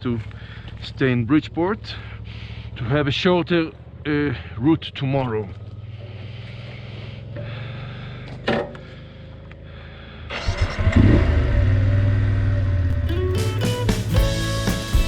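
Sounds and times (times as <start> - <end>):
motorcycle engine idling and revving: 0.0 - 14.9.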